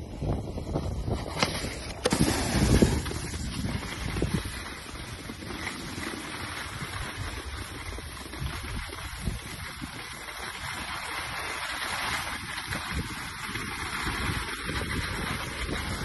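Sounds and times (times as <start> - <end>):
snowboard sliding over snow: 0.0 - 16.0
wind buffeting the microphone: 0.0 - 16.0.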